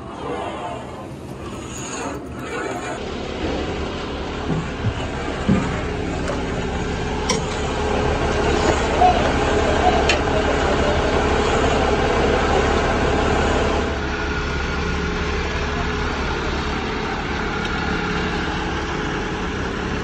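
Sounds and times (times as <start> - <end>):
diesel truck engine idling: 3.0 - 20.0.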